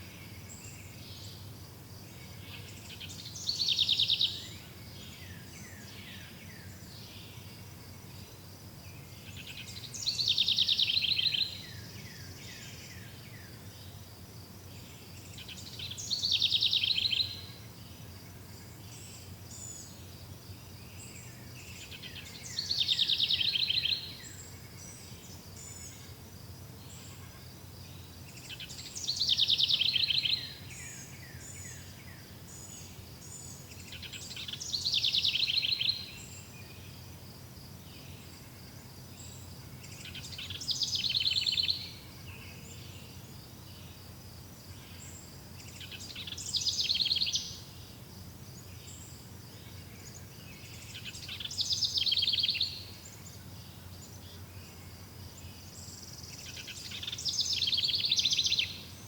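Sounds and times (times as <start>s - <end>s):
songbird trilling song: 0.0s - 44.0s, 44.6s - 59.0s
soft background hiss: 0.0s - 59.0s.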